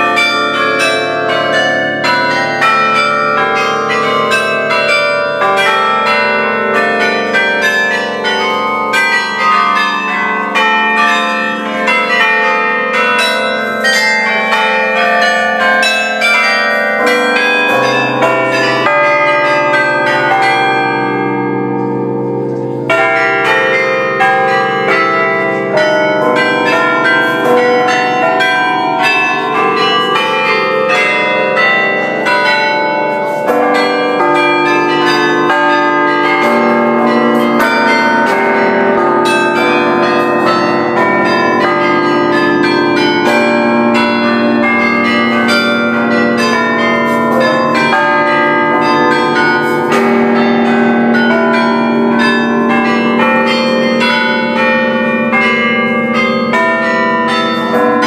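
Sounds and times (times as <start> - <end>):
carillon bells playing a tune: 0.0 - 58.0.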